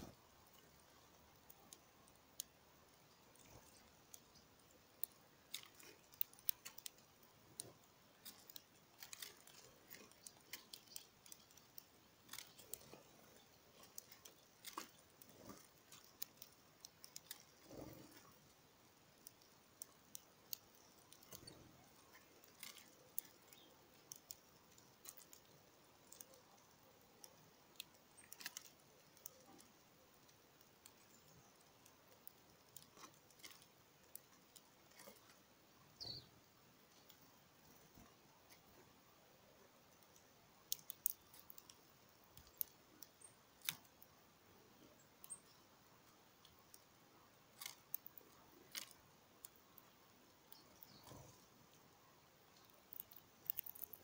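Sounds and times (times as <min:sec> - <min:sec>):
birds pecking seed clicks: 0:00.0 - 0:54.0.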